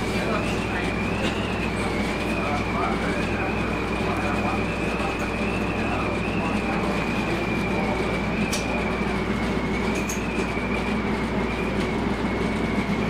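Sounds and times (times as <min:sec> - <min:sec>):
shuttle vehicle hum and whine: 0:00.0 - 0:13.0.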